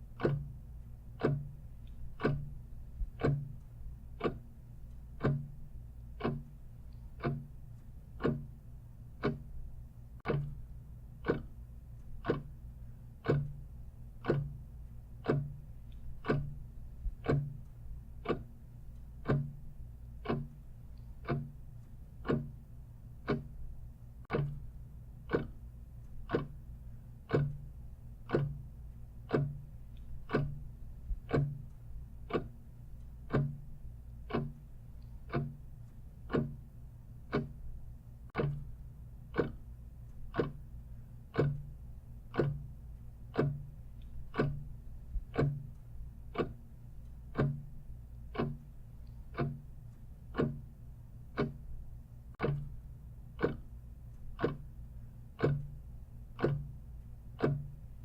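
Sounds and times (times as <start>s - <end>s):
clock ticking: 0.0s - 58.0s
low steady hum: 0.0s - 58.0s.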